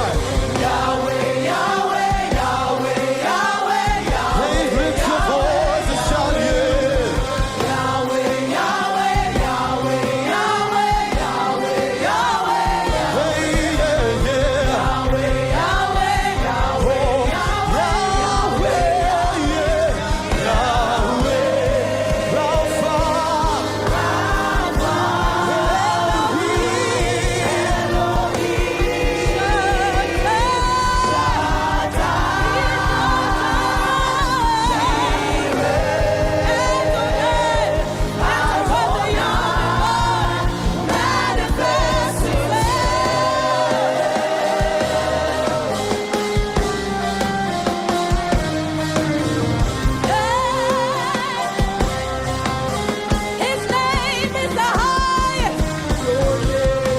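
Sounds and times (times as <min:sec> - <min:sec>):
band with bass and beat: 0:00.0 - 0:56.9
voices singing worship song: 0:00.0 - 0:56.9.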